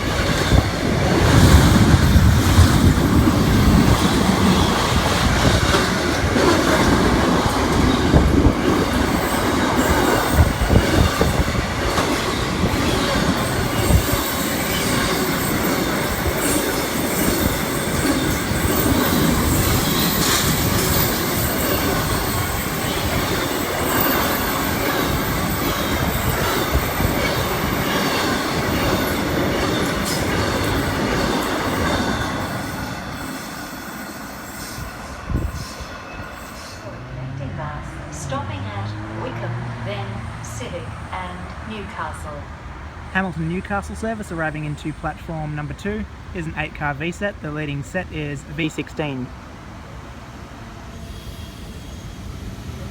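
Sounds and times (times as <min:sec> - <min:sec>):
train moving along tracks: 0:00.0 - 0:52.9.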